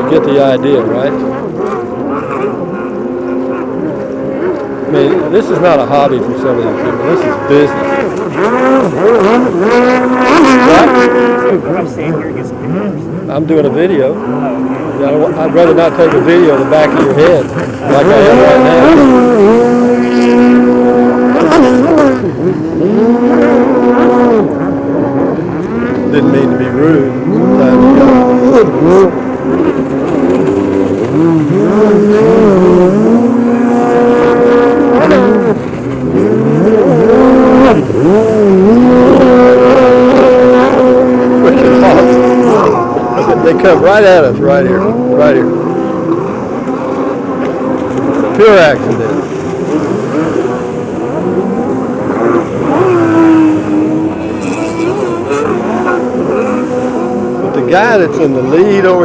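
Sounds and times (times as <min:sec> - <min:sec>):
jet ski engines revving: 0:00.0 - 0:59.0.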